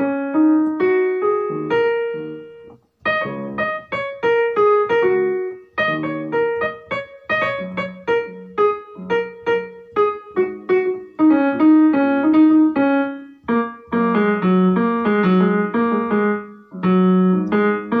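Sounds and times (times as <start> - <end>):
lively piano music: 0.0 - 18.0.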